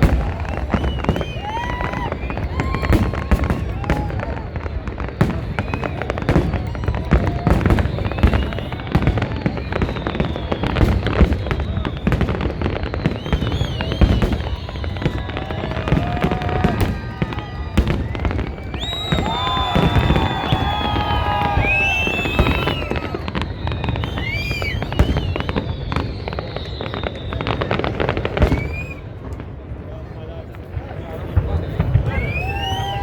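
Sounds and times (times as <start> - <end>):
fireworks bangs and crackling: 0.0 - 33.0
whistling fireworks: 0.0 - 33.0.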